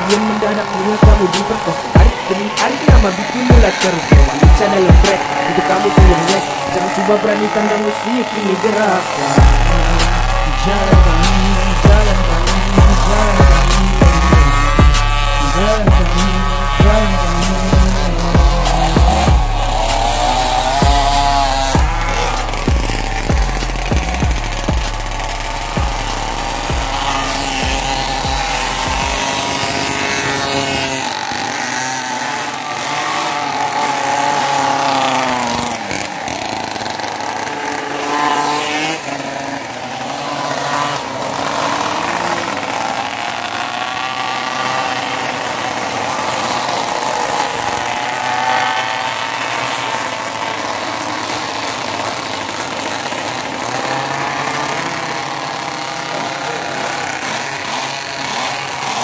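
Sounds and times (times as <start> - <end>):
mini bike engines racing: 0.0 - 59.0.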